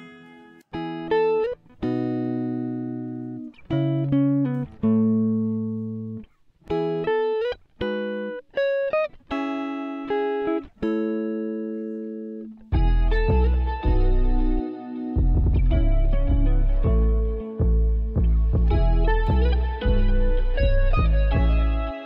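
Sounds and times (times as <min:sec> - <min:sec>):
plucked guitar melody: 0:00.0 - 0:22.0.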